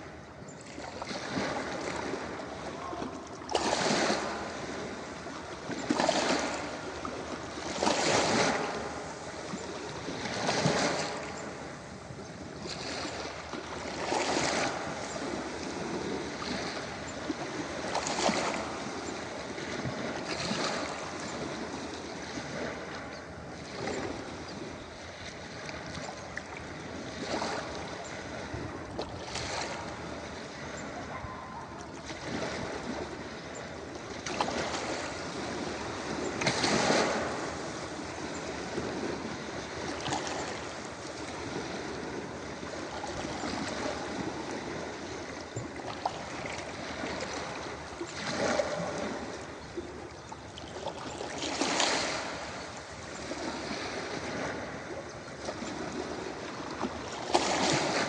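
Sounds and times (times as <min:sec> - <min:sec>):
ocean waves crashing on beach: 0:00.0 - 0:26.0, 0:26.6 - 0:50.3, 0:51.0 - 0:58.0.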